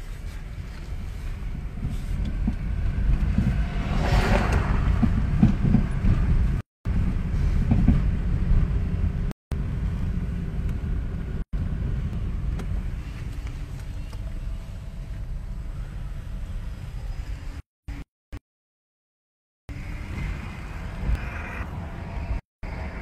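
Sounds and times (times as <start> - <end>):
moving vehicle rumble: 0.0 - 18.1, 19.7 - 23.0.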